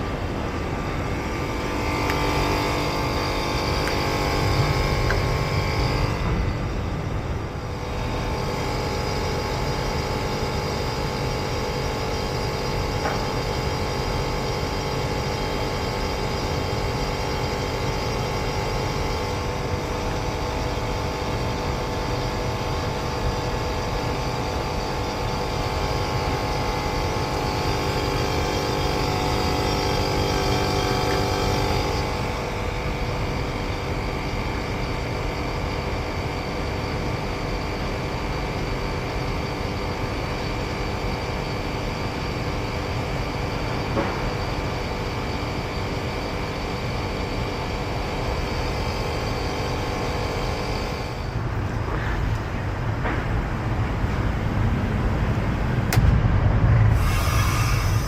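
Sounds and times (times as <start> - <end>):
air conditioner unit humming: 0.0 - 58.0.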